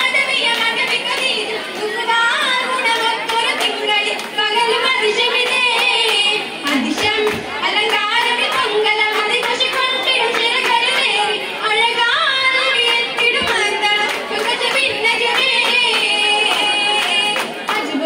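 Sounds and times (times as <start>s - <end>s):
hand claps: 0.0s - 11.8s, 12.4s - 18.0s
girls singing in chorus: 0.0s - 18.0s.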